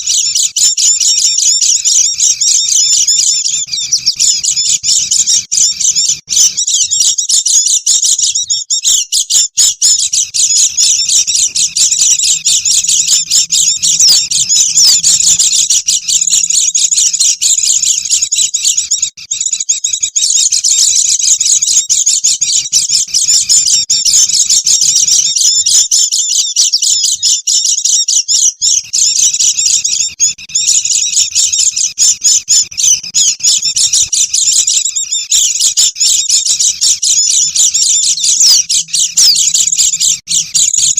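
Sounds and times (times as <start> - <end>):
birds twittering rapidly: 0.0 - 40.9.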